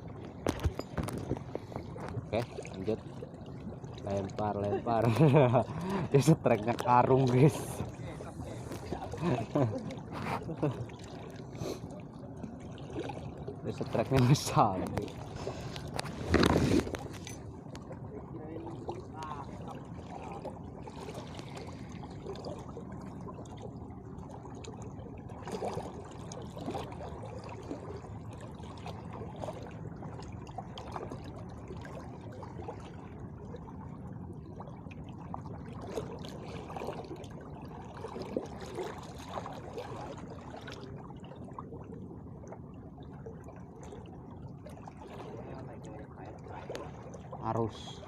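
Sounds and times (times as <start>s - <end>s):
seawater sloshing among rocks: 0.0s - 48.0s.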